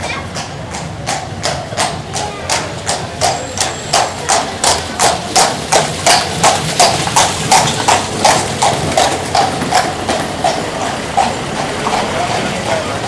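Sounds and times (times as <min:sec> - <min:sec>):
horse hooves clip-clopping on cobblestones: 0:00.0 - 0:13.0.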